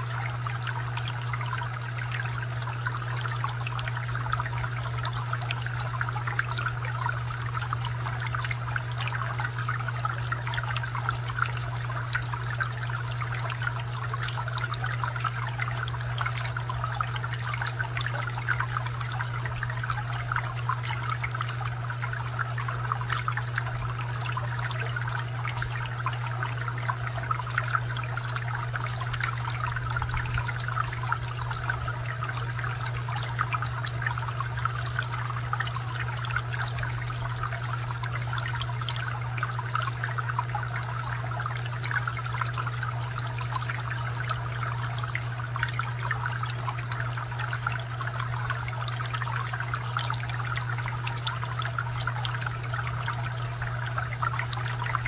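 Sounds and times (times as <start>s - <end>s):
constant low hum: 0.0s - 55.0s
fountain water trickling and splashing: 0.0s - 55.0s.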